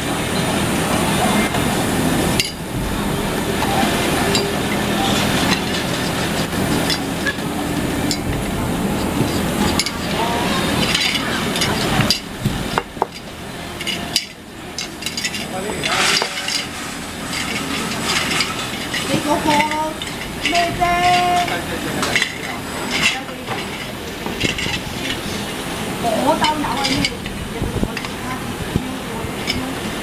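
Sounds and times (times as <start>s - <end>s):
machine hum and hiss: 0.0s - 30.0s.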